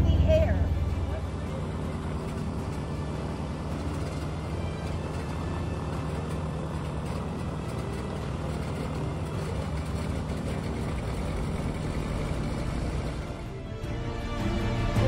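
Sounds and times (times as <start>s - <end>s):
propeller plane engines running: 0.0s - 15.0s.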